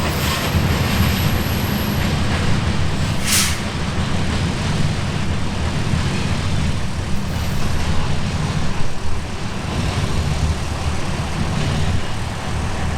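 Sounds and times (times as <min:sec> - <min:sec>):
freight train wheels rumbling: 0:00.0 - 0:12.9.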